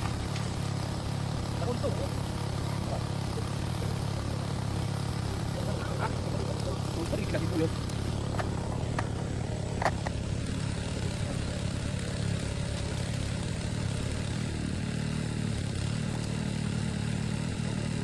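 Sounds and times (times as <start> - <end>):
engine-driven water pump: 0.0 - 18.0.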